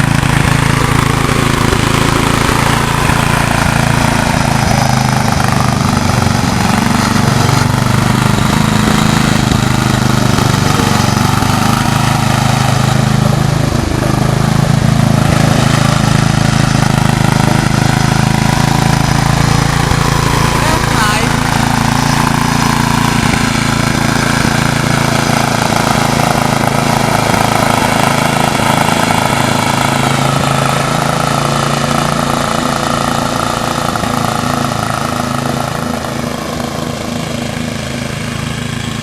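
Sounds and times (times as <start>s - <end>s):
riding lawnmower engine running: 0.0s - 39.0s.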